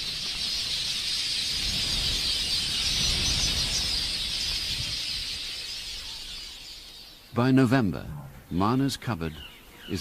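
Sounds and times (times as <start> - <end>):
flock of birds chattering: 0.0 - 10.0.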